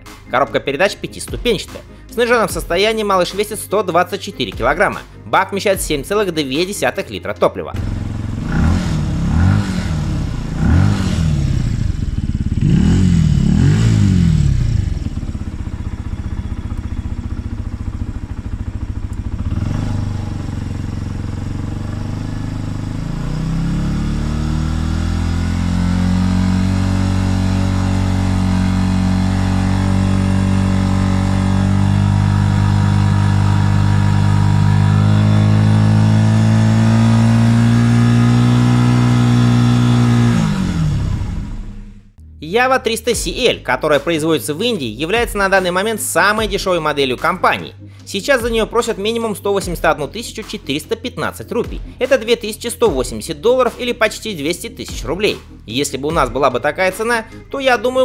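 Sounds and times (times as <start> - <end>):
motorcycle engine revving: 0.0 - 7.0, 7.7 - 42.3, 43.1 - 58.0.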